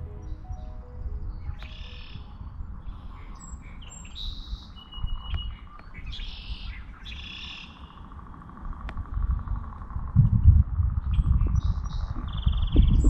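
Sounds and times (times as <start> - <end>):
songbirds chirping: 0.0 - 10.2, 10.9 - 13.0
low steady rumble: 0.0 - 13.0.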